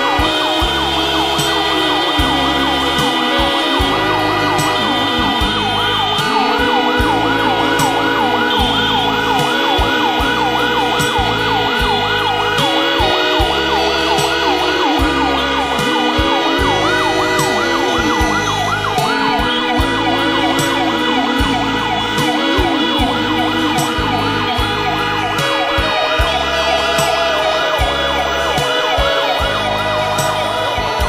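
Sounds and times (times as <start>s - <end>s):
long vehicle horn blasts: 0.0s - 31.0s
vehicle siren yelping: 0.0s - 31.0s.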